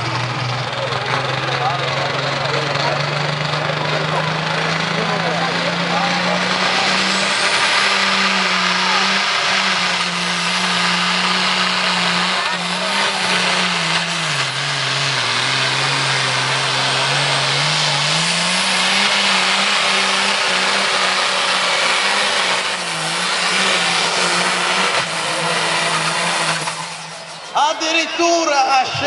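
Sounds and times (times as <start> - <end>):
tractor engine under heavy load: 0.0 - 29.0.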